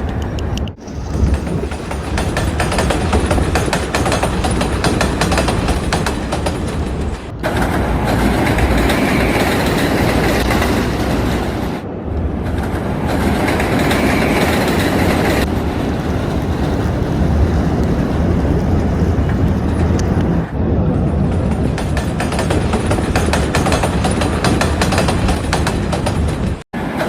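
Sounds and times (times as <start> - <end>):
train rumble and rail clatter: 0.0 - 27.0.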